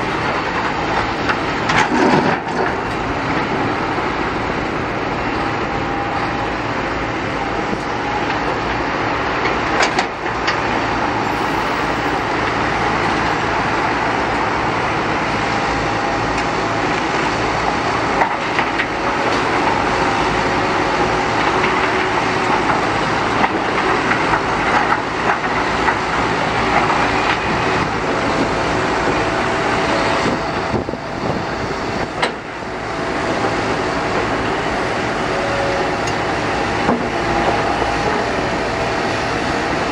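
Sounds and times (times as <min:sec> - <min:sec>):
diesel construction machinery running: 0:00.0 - 0:39.9.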